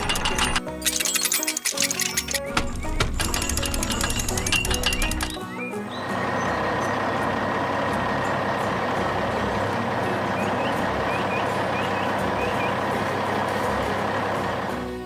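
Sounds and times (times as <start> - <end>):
constant whine: 0.0 - 15.0
heavy truck engine running: 0.0 - 15.0.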